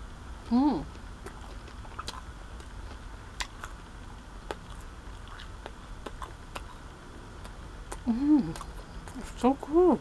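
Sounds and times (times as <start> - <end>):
low steady hum: 0.0 - 10.0
person chewing bread: 0.9 - 9.4.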